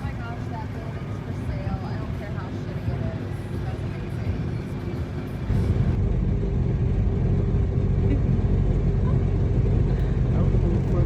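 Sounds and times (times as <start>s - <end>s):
motorboat engine rumbling: 0.0s - 11.0s.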